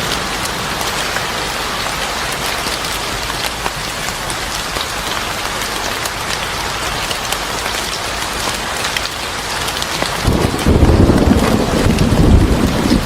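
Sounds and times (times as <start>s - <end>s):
rain on a hard surface: 0.0s - 13.0s.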